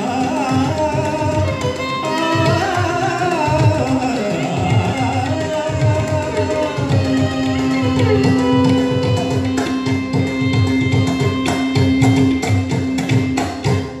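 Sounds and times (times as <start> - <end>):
violin: 0.0 - 14.0.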